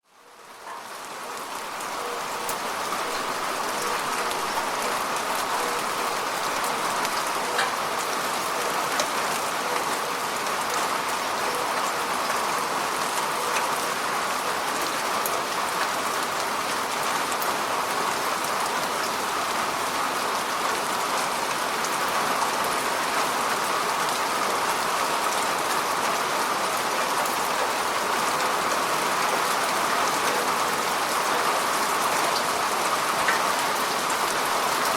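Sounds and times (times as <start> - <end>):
steady falling rain: 0.0 - 34.9.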